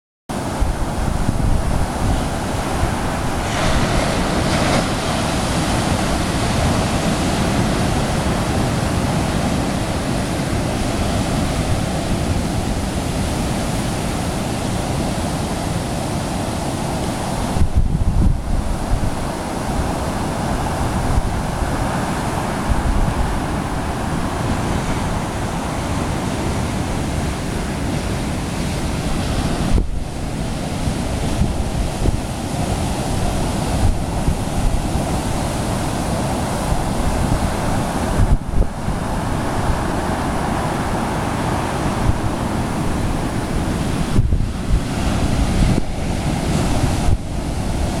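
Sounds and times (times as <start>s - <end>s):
waves breaking: 0.3s - 48.0s
wind buffeting the microphone: 0.3s - 48.0s.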